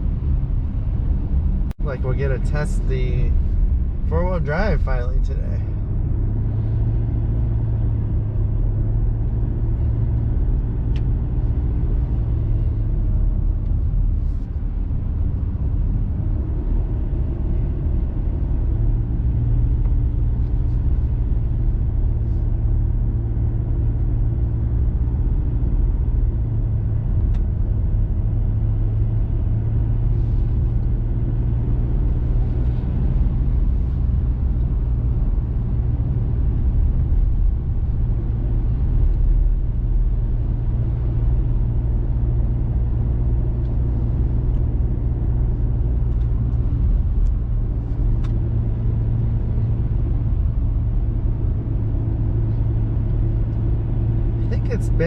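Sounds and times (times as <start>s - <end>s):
road noise: 0.0s - 55.0s
vehicle engine drone: 0.0s - 55.0s.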